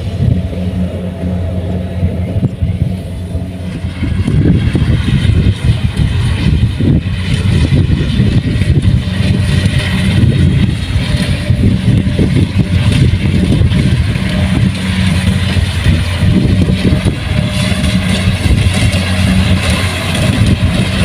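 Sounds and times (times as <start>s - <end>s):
combine harvester engine running: 0.0s - 21.0s.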